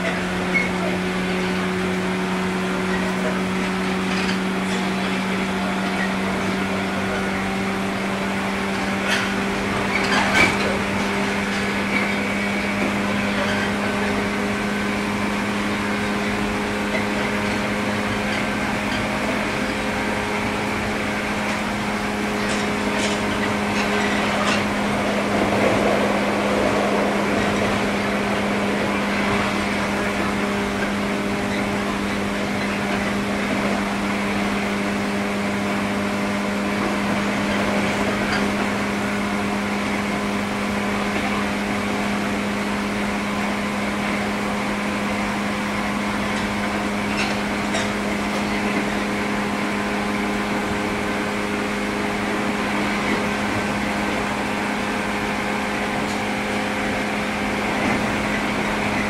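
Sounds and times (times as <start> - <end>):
electric train hum: 0.0 - 59.0
train running rumble: 0.0 - 59.0.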